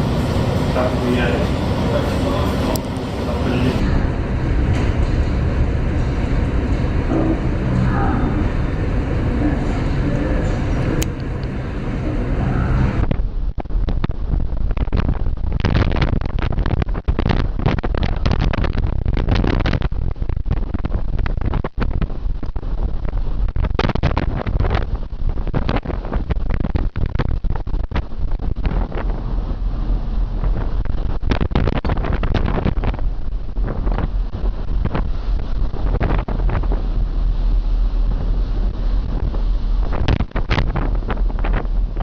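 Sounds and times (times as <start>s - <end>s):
deep rumble of a ship: 0.0s - 42.0s
wind buffeting microphone: 0.0s - 42.0s.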